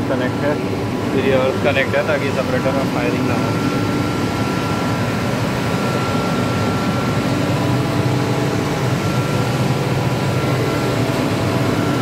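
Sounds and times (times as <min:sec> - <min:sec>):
air compressor drone: 0:00.0 - 0:12.0
thin constant whine: 0:00.0 - 0:12.0.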